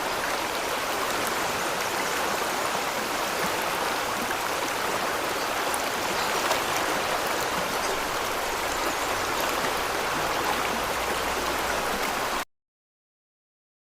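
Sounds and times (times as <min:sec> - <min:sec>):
running water: 0:00.0 - 0:12.4.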